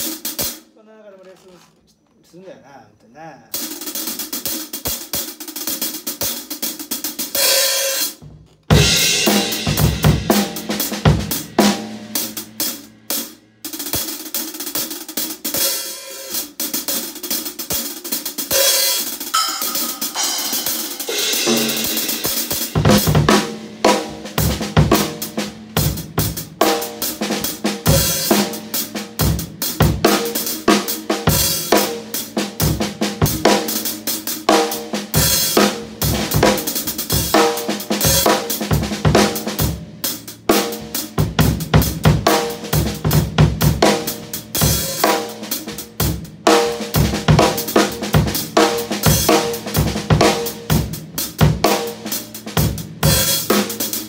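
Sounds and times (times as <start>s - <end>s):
drum kit groove: 0.0s - 54.0s.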